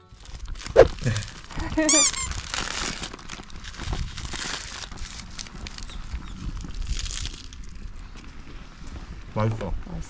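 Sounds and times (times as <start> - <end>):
crinkling and rustling: 0.0 - 9.7.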